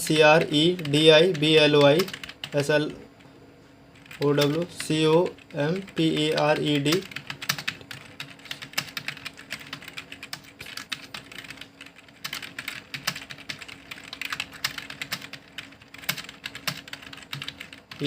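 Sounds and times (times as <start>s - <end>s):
keyboard typing: 0.1s - 3.3s, 4.0s - 18.0s.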